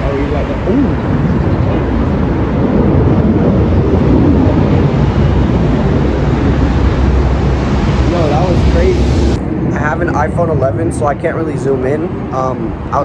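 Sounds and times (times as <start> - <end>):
jet flying past roaring: 0.0 - 13.0.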